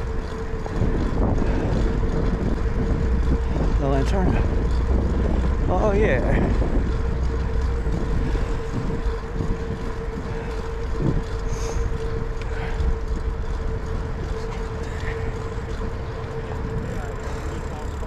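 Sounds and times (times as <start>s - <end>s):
steady whine: 0.0s - 18.0s
wind rumbling on microphone: 0.0s - 18.0s.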